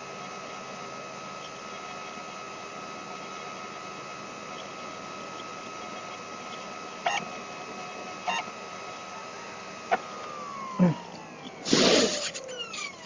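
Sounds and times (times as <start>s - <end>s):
disc drive spinning whine: 0.0s - 13.0s.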